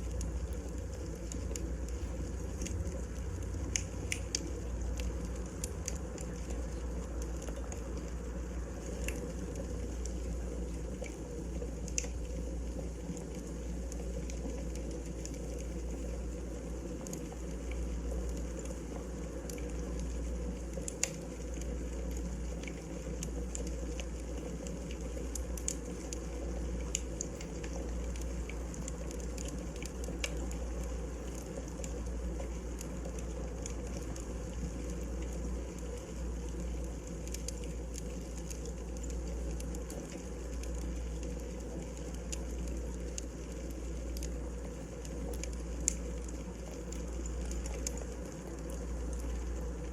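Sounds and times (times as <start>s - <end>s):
firewood crackling and popping: 0.0s - 49.9s
wood fire burning: 0.0s - 49.9s.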